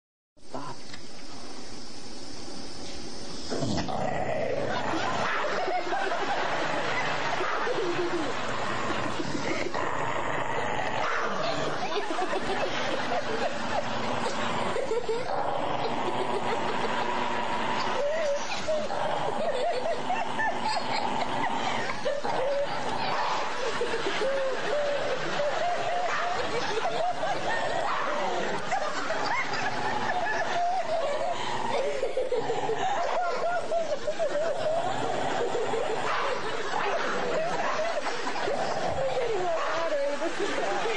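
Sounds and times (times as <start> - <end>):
steady hiss: 0.4 - 40.9
dog growling: 3.5 - 40.9
people snickering and chuckling: 3.5 - 40.9.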